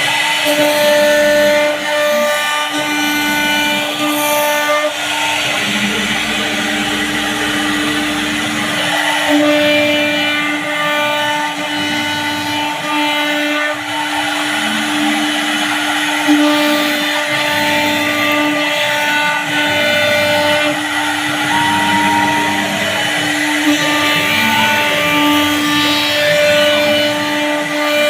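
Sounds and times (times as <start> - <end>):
router cutting noise: 0.0 - 21.6, 22.7 - 28.0
cnc router spindle whine: 0.0 - 28.0.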